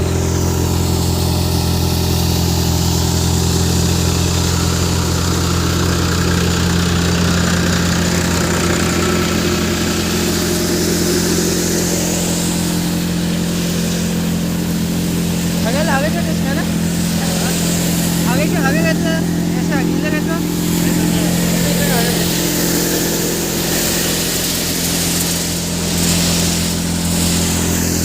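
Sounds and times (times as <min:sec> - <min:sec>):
threshing drum hiss: 0:00.0 - 0:28.0
tractor diesel engine running: 0:00.0 - 0:28.0.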